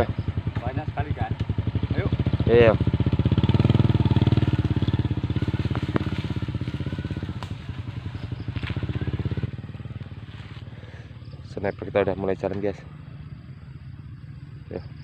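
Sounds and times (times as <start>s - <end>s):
small motorcycle engine puttering: 0.0s - 15.0s.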